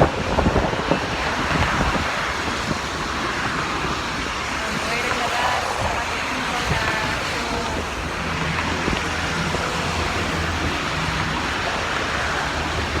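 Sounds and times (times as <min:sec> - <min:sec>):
gusting wind: 0:00.0 - 0:13.0
heavy rain: 0:00.0 - 0:13.0.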